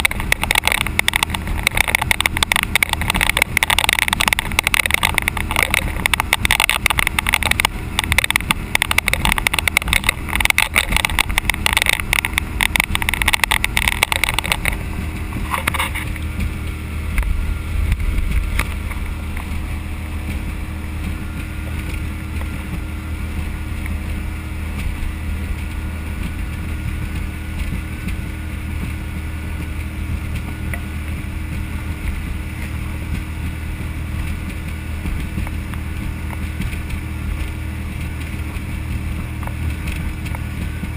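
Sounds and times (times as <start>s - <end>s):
boat engine hum: 0.0s - 40.9s
rush of water and wind: 0.0s - 40.9s.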